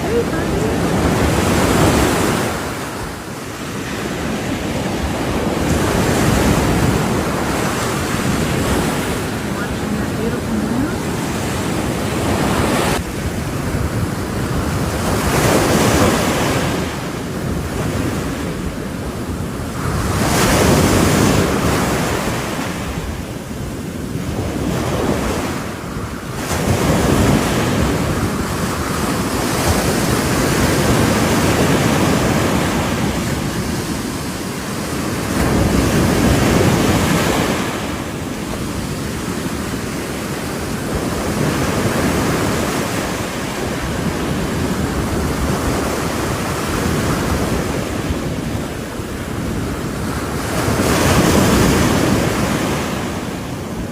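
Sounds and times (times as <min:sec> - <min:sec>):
ocean waves breaking: 0:00.0 - 0:53.9
wind buffeting microphone: 0:00.0 - 0:53.9.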